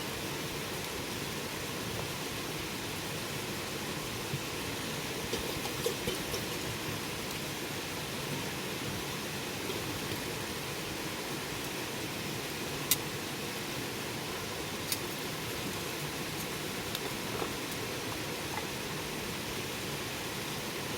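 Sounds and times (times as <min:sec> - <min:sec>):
wood fire hissing: 0:00.0 - 0:20.9.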